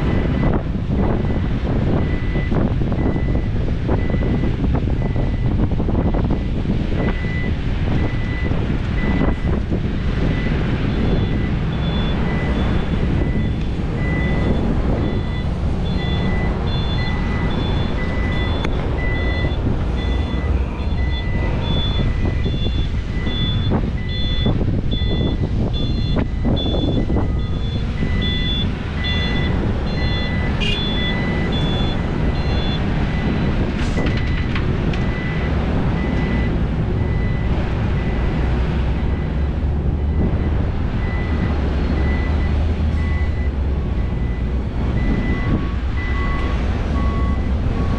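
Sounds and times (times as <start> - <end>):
heavy diesel engines running: 0.0 - 47.9
reversing alarm beeping: 0.1 - 9.6, 10.2 - 47.9
higher reversing alarm beeping: 6.3 - 9.6, 10.2 - 34.5, 35.1 - 47.9.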